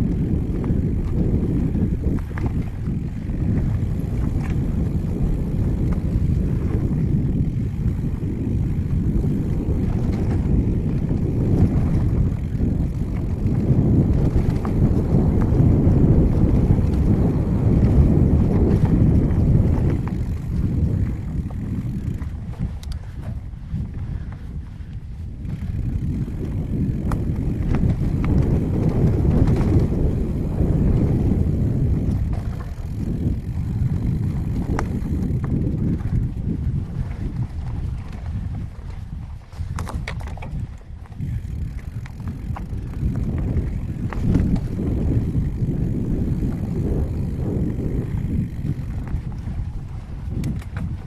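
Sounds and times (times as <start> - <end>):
bike tyres on sandy trail: 0.0 - 51.0
faint bike ticks: 0.0 - 51.0
wind buffeting microphone: 0.0 - 51.0.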